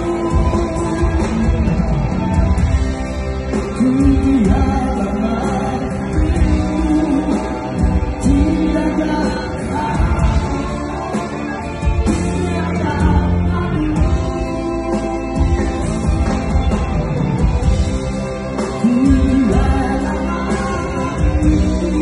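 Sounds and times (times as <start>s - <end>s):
man singing: 0.0s - 1.7s, 3.5s - 16.5s, 18.6s - 22.0s
bass guitar: 0.0s - 22.0s
drums: 0.0s - 22.0s.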